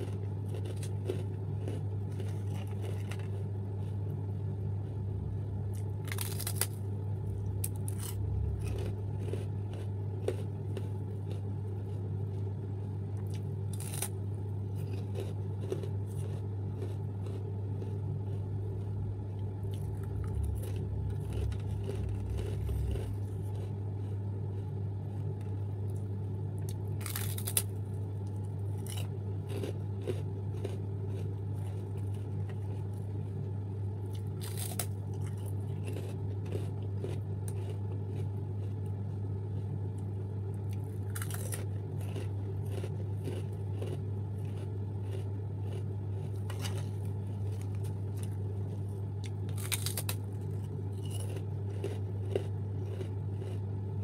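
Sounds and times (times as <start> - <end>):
person crunching crackers: 0.0 - 54.0
steady low hum: 0.0 - 54.0.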